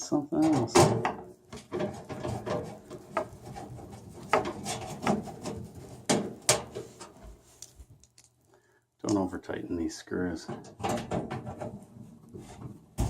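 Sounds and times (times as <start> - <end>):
scraping and rubbing of parts: 0.5 - 8.5, 10.5 - 13.0.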